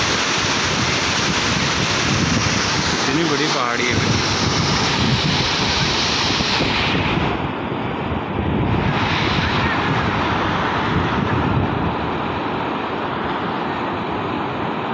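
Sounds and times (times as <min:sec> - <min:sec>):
waterfall rushing: 0:00.0 - 0:14.9
wind buffeting microphone: 0:00.0 - 0:14.9.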